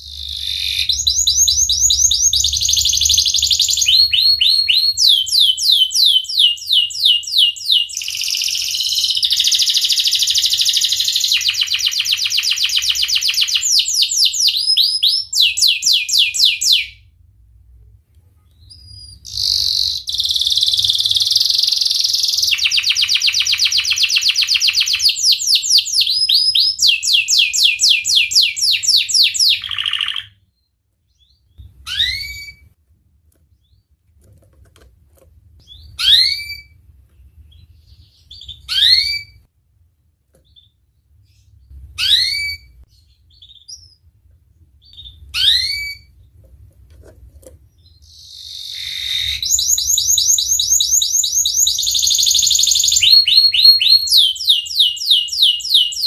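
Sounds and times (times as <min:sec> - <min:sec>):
canary singing trills: 0:00.0 - 0:17.0, 0:18.5 - 0:30.4, 0:31.1 - 0:32.7, 0:35.6 - 0:39.5, 0:40.4 - 0:44.1, 0:44.8 - 0:46.3, 0:47.7 - 0:56.0.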